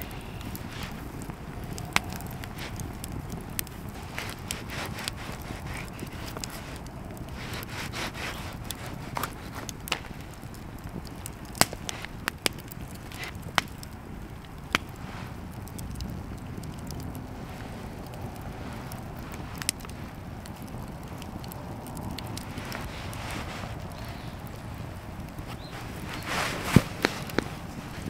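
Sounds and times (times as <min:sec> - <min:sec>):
low rustling: 0:00.0 - 0:28.0
wood crackling and popping: 0:00.0 - 0:28.0.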